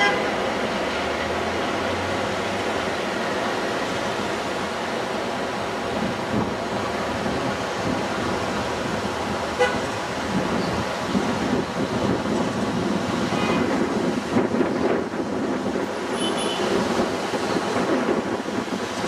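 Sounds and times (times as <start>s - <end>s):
subway car interior noise: 0.0s - 19.0s.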